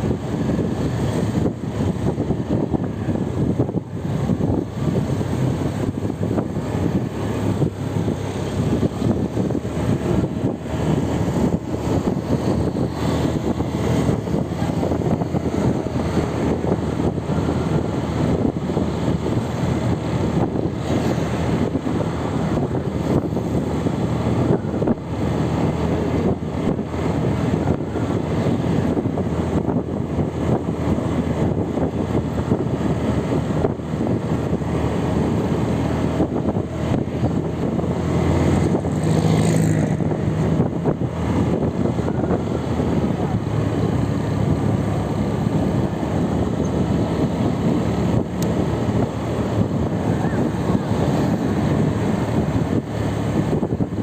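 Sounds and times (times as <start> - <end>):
vehicle engine and tyres on road: 0.0 - 54.0.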